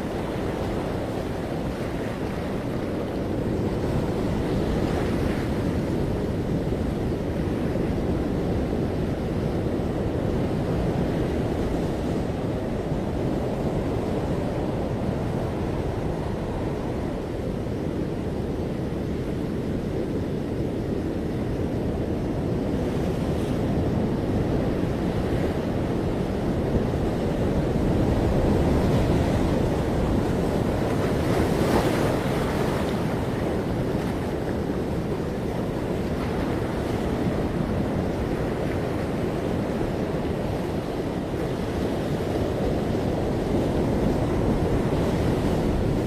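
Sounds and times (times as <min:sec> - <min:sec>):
ocean waves breaking on beach: 0:00.0 - 0:46.0
wind buffeting microphone: 0:00.0 - 0:46.0.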